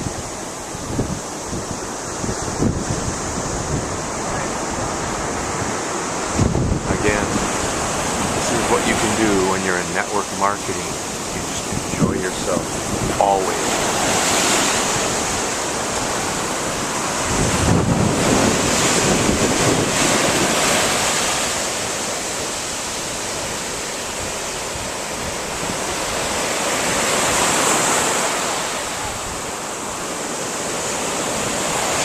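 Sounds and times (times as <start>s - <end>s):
ocean surf washing onto beach: 0.0s - 32.0s
wind buffeting microphone: 0.0s - 32.0s.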